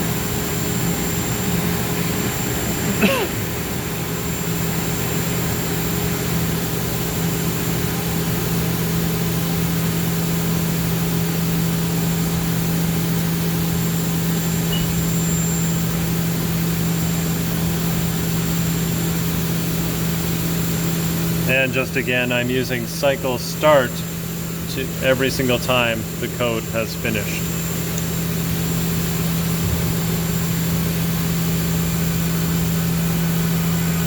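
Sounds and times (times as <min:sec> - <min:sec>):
milling machine humming: 0:00.0 - 0:34.0.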